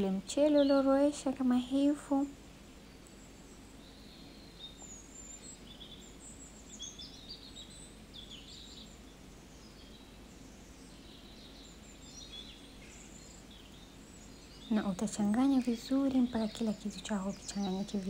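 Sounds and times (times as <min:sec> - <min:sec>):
faint birds chirping: 0:00.0 - 0:18.0
low steady hum: 0:00.0 - 0:18.0.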